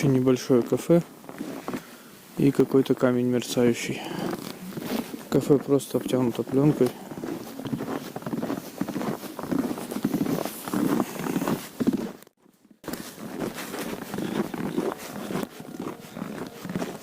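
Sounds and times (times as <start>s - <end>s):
footsteps crunching on snow: 0.0s - 17.0s.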